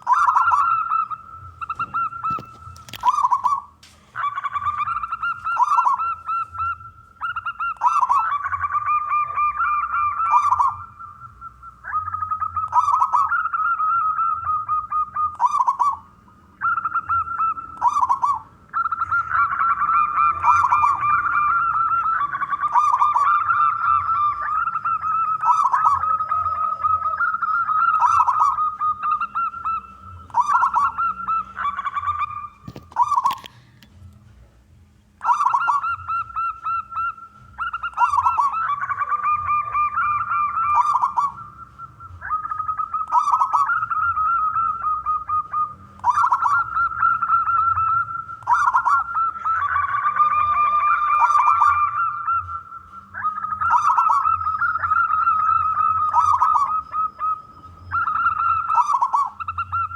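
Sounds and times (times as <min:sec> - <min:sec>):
dove cooing: 0:00.0 - 0:33.8, 0:35.2 - 0:59.9.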